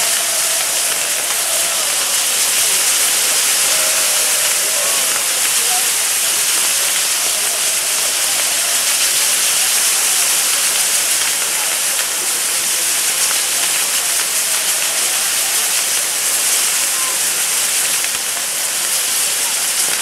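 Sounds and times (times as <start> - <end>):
firework fountains hissing: 0.0 - 20.0.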